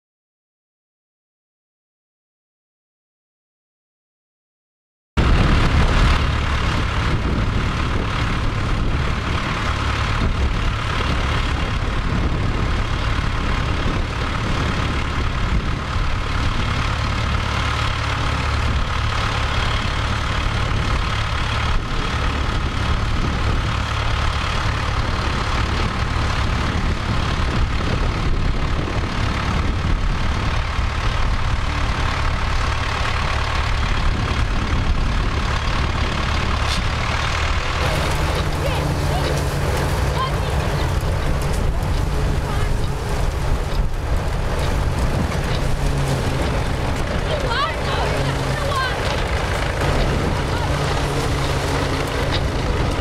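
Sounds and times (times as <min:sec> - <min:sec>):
tractor diesel engine running: 0:05.2 - 0:53.0.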